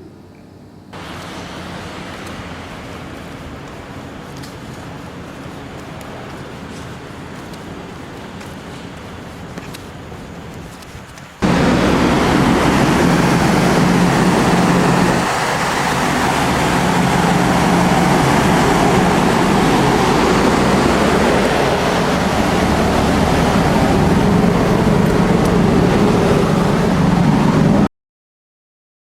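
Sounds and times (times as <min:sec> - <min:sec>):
low engine hum: 0:00.8 - 0:27.9
ferry machinery rushing: 0:01.0 - 0:27.9.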